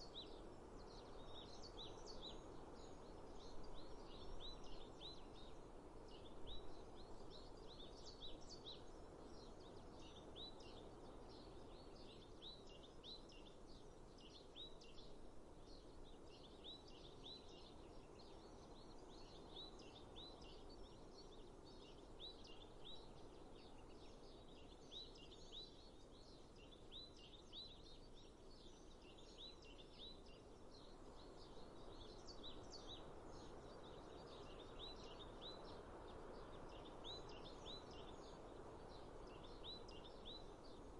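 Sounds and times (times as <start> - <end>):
soft background hiss: 0.0 - 40.9.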